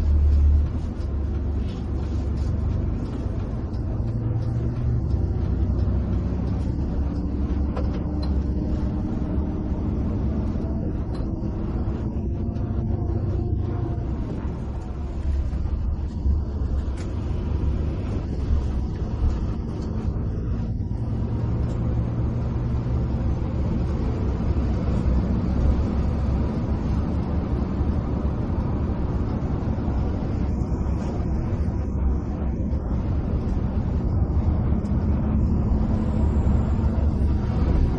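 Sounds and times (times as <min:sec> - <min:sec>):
bus diesel engine rumble: 0:00.0 - 0:37.9.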